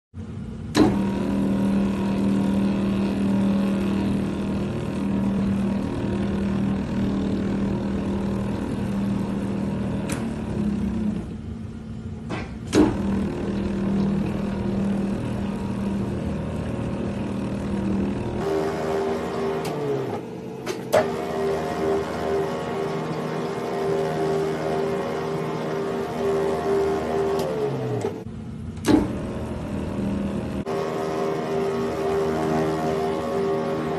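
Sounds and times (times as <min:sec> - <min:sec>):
metal lathe humming: 0:00.7 - 0:11.8, 0:12.7 - 0:33.9.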